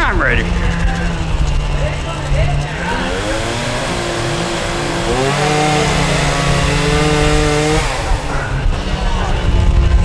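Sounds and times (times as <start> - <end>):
chainsaw engine revving: 0.0 - 10.0.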